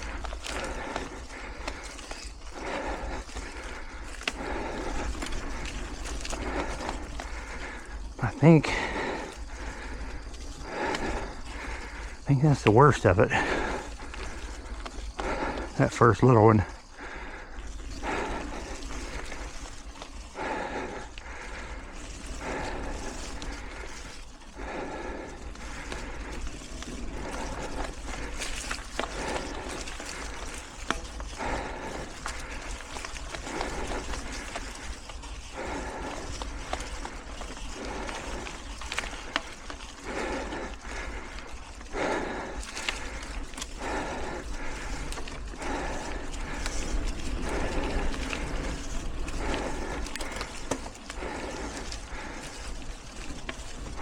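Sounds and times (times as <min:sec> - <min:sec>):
bike rattling: 0:00.0 - 0:54.0
rider breathing hard: 0:00.0 - 0:54.0
rumble of bike tyres: 0:00.0 - 0:54.0.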